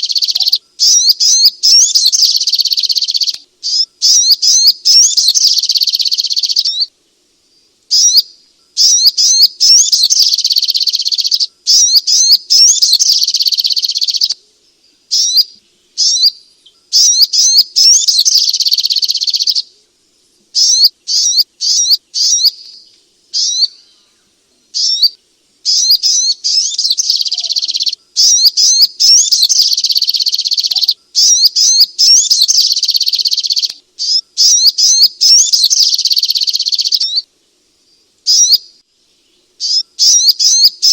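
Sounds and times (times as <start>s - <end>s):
bird chirping rapidly: 0.0s - 6.9s, 7.9s - 14.4s, 15.1s - 19.7s, 20.6s - 24.0s, 24.7s - 37.2s, 38.3s - 38.8s, 39.6s - 40.9s.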